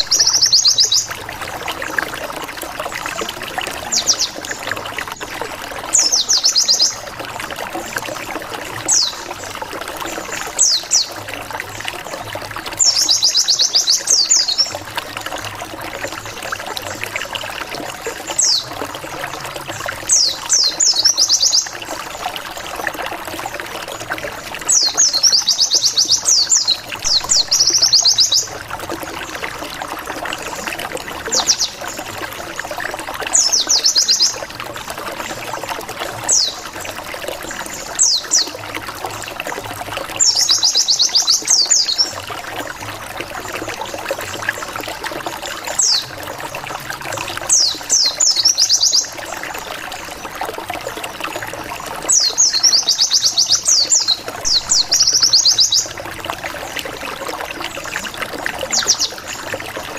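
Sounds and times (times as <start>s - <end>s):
trickle of running water: 0.0s - 59.9s.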